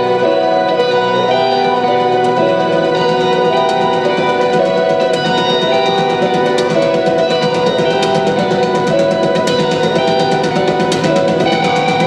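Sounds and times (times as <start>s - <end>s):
electric guitar: 0.0s - 12.0s
steady drum beat: 2.1s - 12.0s.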